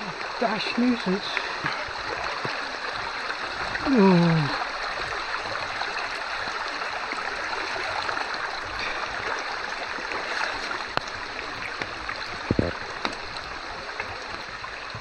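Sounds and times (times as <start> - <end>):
river water rushing: 0.0 - 15.0
wading splashes and knocks: 0.0 - 15.0.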